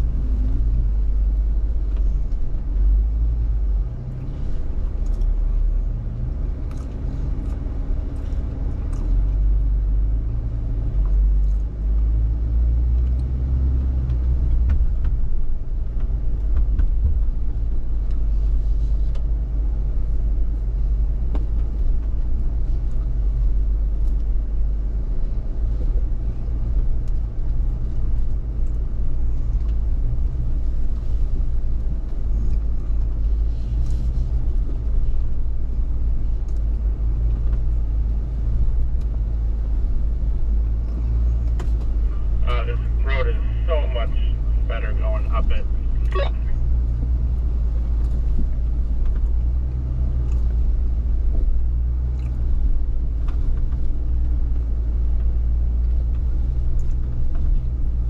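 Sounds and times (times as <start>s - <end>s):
vehicle engine running low: 0.0s - 58.0s.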